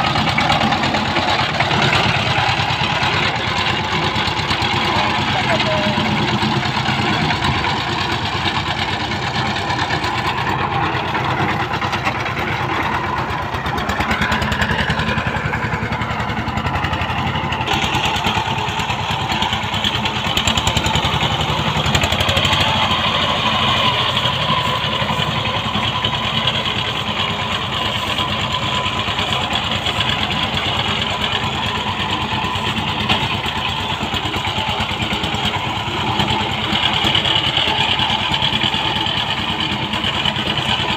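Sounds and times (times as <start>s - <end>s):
power tiller diesel engine chugging: 0.0s - 40.9s.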